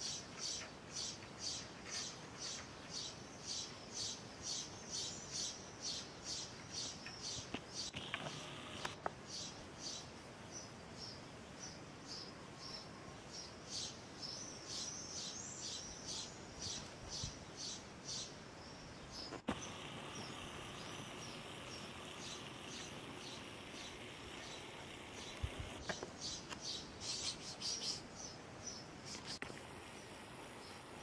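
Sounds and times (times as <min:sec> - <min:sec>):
small bird chirping: 0:00.0 - 0:31.0.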